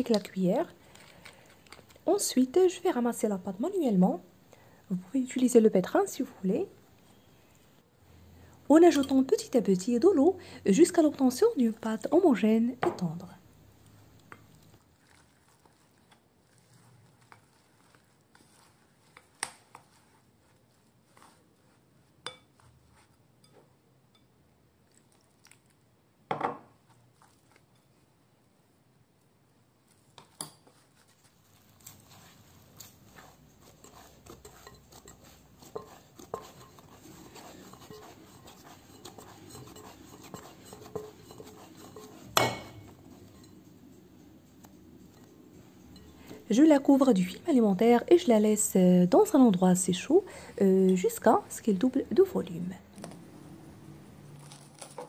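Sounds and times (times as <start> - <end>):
spoon scraping dough in bowl: 0.0 - 4.2, 8.8 - 23.6, 26.8 - 28.1, 29.9 - 53.3, 54.2 - 55.0.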